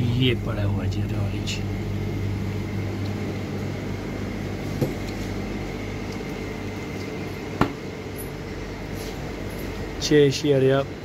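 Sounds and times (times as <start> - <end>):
display fridges humming: 0.0 - 11.0.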